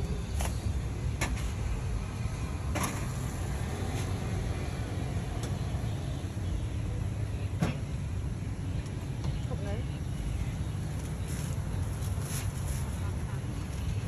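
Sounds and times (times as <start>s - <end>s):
low rumble of street traffic: 0.0s - 14.0s.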